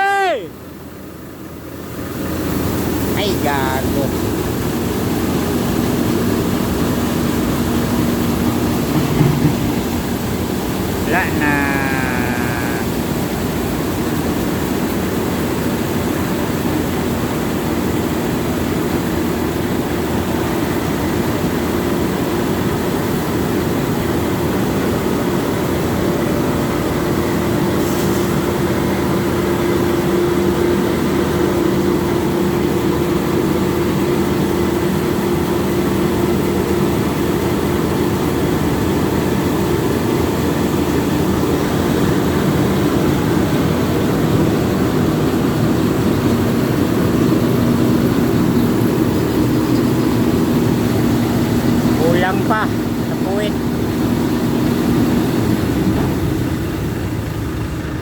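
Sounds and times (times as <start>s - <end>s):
heavy engine droning: 0.0s - 58.0s.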